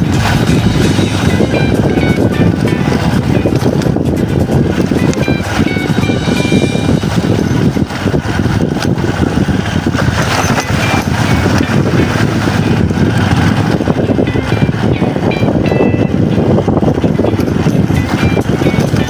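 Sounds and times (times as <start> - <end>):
vehicle road rumble: 0.0 - 19.0
wind on microphone: 0.0 - 19.0.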